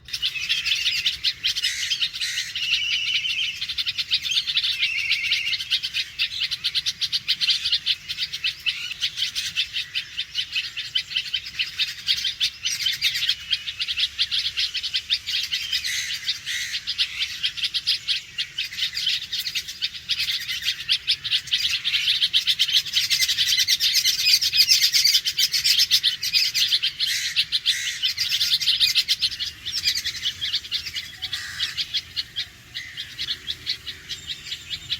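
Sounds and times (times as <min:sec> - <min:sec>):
bird alarm call: 0:00.0 - 0:34.9.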